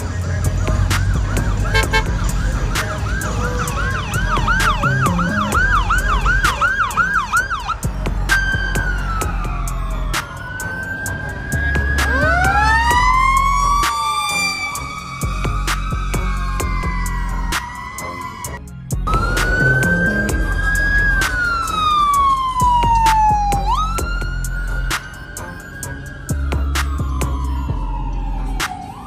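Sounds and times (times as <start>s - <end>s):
emergency vehicle sirens: 0.0s - 29.0s.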